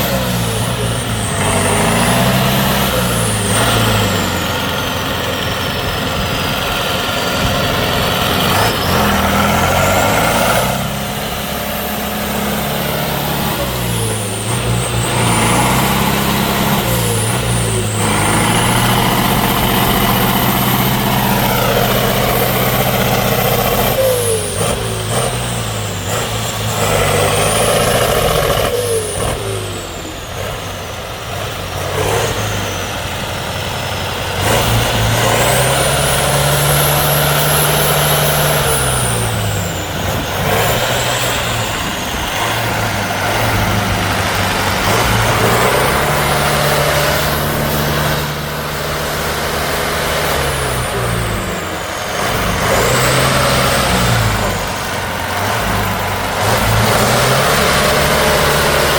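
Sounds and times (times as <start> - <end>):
diesel truck engine revving: 0.0 - 58.9.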